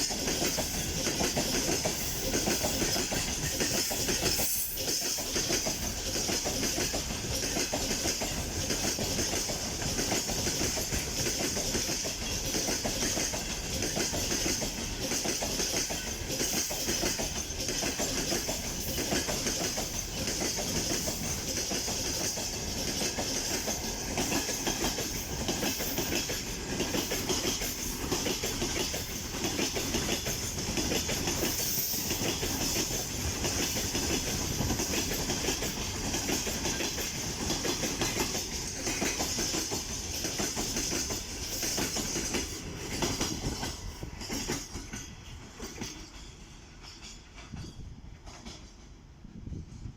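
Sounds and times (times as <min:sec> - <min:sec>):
train wheels clattering: 0:00.0 - 0:49.0.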